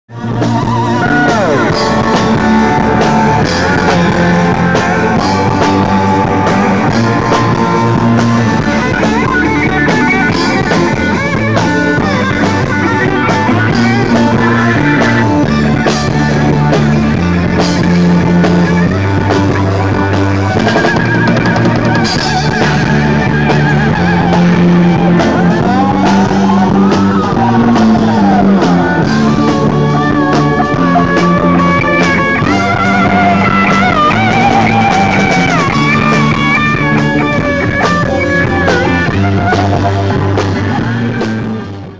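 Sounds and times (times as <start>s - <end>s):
blues band playing: 0.1s - 41.9s
electric guitar bent notes: 0.1s - 41.9s.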